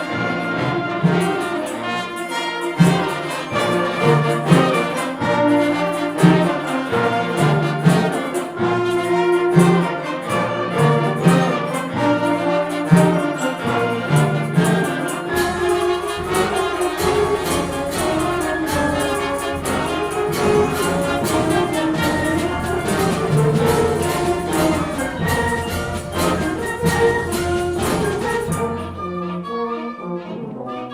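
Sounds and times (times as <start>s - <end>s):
concert band playing: 0.0s - 29.0s.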